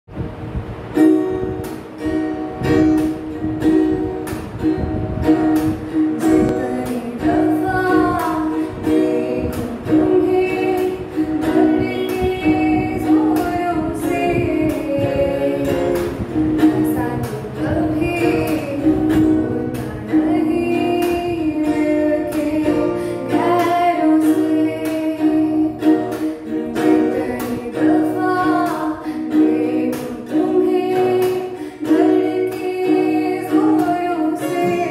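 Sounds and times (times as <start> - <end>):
plucked notes: 0.2 - 34.9
girl singing: 0.9 - 34.9.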